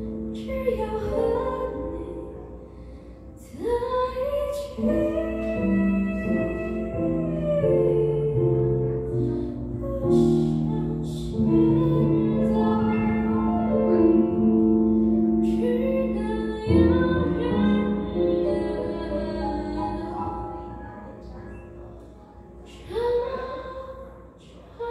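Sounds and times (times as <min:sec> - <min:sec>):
woman singing: 0:00.0 - 0:02.8, 0:03.4 - 0:21.6, 0:22.6 - 0:24.9
piano chords: 0:00.0 - 0:24.9.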